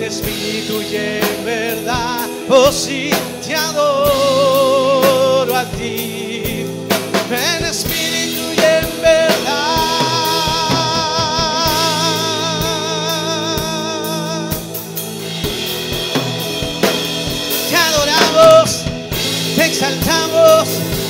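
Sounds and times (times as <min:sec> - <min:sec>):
man singing with vibrato: 0:00.0 - 0:21.0
worship band with drum kit: 0:00.0 - 0:21.0.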